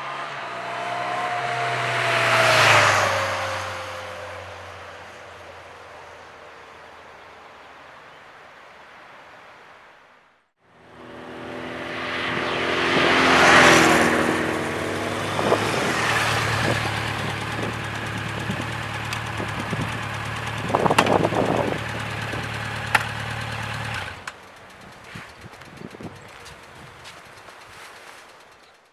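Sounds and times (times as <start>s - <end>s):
motorcycle engine and exhaust: 0.0s - 6.2s, 10.7s - 28.9s.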